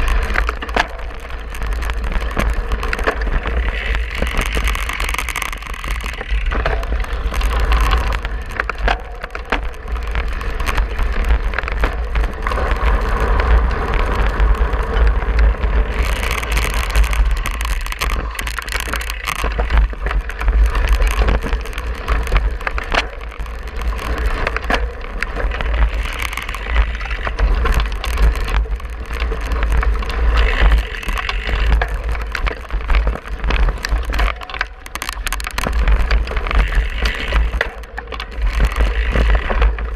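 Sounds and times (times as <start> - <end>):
low rumble: 0.0 - 34.9
bike frame rattling: 0.0 - 39.9
bike tyres crunching on ground: 0.0 - 39.9.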